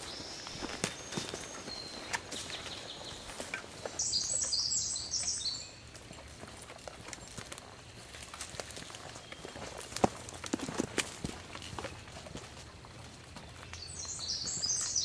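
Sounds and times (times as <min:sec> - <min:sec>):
footsteps through undergrowth: 0:00.0 - 0:15.0.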